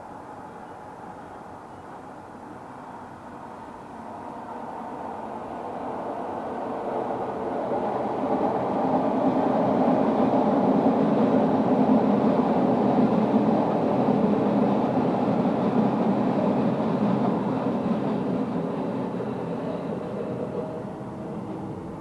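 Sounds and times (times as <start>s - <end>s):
jet engines rumbling: 4.2s - 22.0s.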